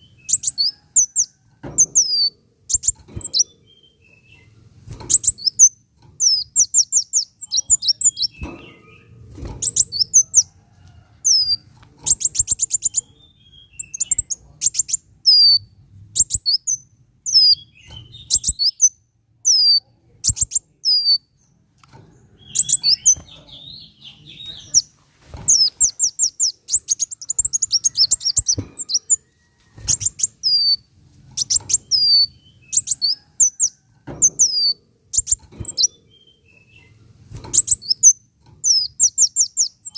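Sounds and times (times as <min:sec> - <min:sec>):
sunbird chirping and trilling: 0:00.0 - 0:10.5, 0:11.2 - 0:21.6, 0:22.3 - 0:24.9, 0:25.5 - 0:29.2, 0:29.8 - 0:39.9.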